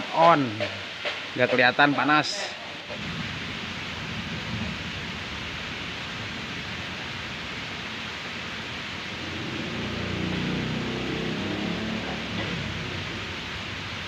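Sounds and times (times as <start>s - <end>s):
water splashing from sprays: 0.0s - 14.0s.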